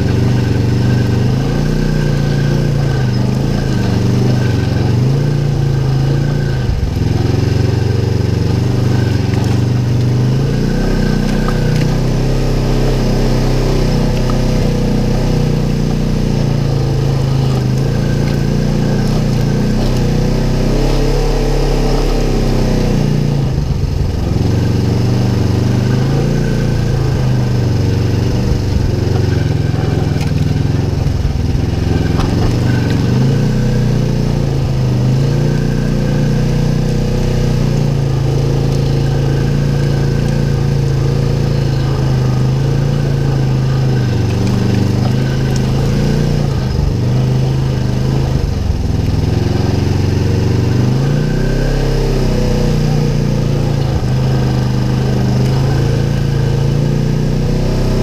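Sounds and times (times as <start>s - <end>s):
off-road vehicle engine revving: 0.0s - 58.0s.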